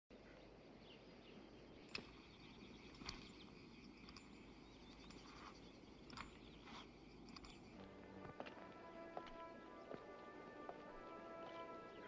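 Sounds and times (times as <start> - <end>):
soft bird chirps: 0.1 - 10.2.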